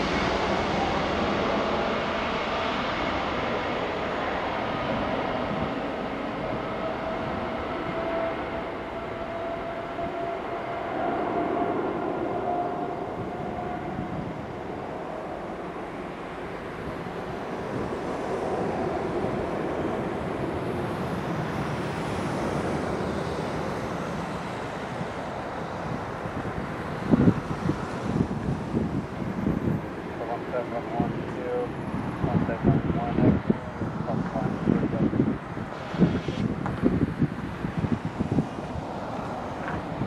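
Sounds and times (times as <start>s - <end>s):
distant jet engines rumbling: 0.0s - 40.0s.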